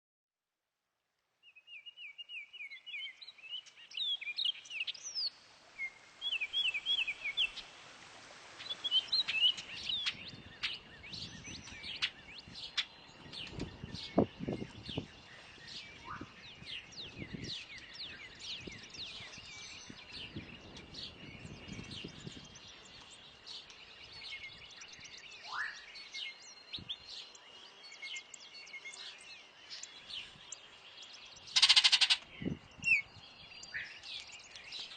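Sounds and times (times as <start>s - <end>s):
songbirds chirping and singing: 1.4s - 7.7s, 8.6s - 34.9s.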